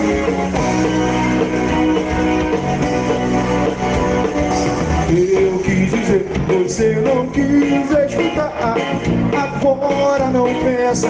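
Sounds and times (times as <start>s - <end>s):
acoustic guitar song: 0.0s - 11.0s.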